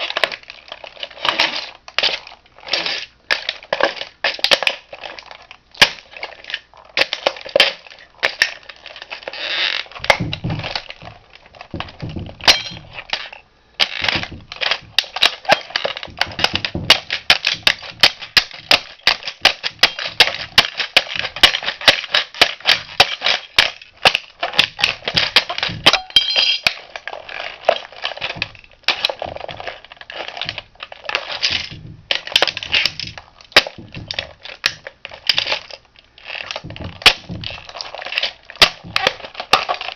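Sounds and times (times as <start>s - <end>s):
plastic cracking and snapping: 0.0s - 39.9s
plastic pieces clattering: 0.0s - 39.9s.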